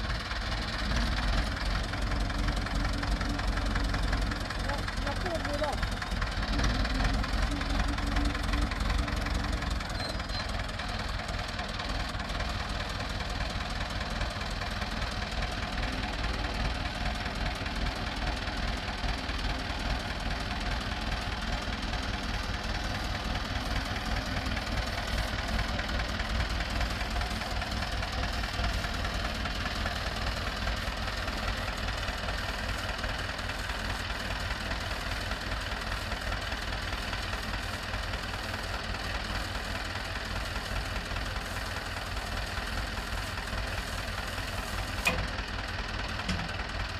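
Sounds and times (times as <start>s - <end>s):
tractor diesel engine chugging: 0.0s - 46.9s.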